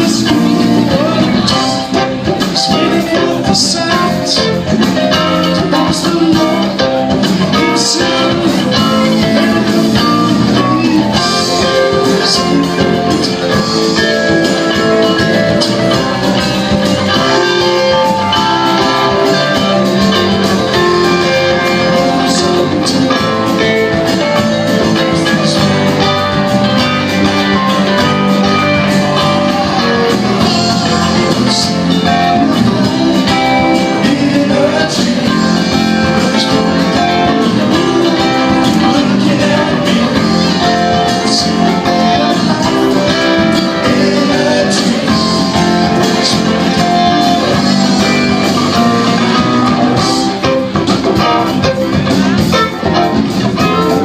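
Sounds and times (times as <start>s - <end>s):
guitar: 0.0s - 54.0s
live band playing: 0.0s - 54.0s
person singing: 0.0s - 54.0s.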